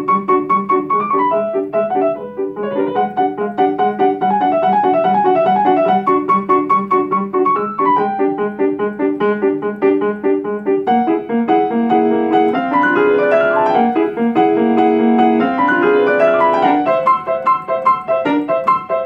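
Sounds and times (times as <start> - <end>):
grand piano playing: 0.0 - 19.0.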